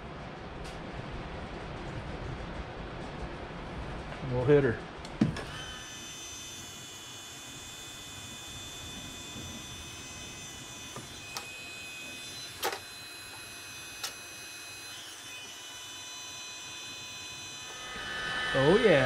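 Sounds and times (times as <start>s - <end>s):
heat gun fan whine: 0.0s - 19.0s.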